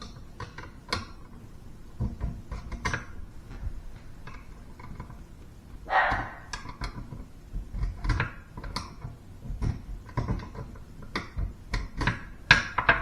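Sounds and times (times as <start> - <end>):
clicks and scrapes of drain parts: 0.0 - 5.3, 6.2 - 13.0.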